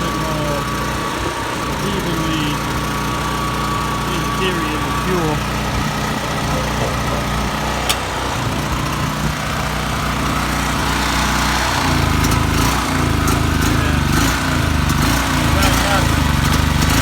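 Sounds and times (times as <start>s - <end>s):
generator engine surging: 0.0s - 17.0s.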